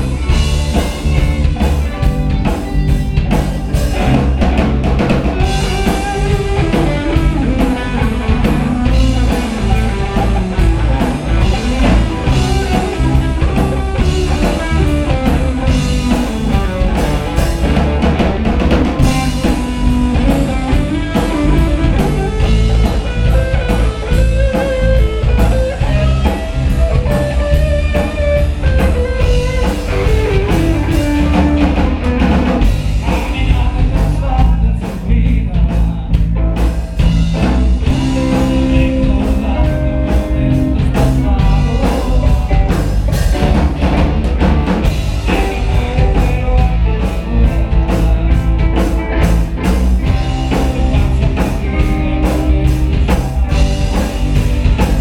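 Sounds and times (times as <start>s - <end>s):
drum kit beat: 0.0s - 55.0s
electric guitars: 0.0s - 55.0s.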